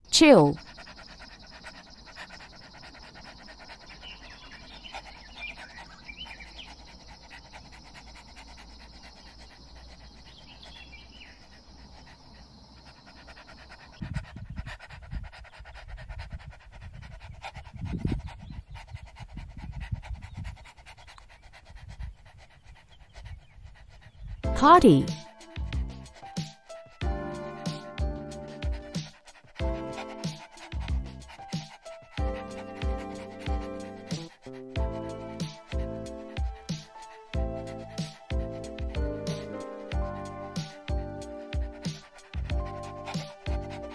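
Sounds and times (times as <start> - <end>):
dog panting: 0.0 - 43.9.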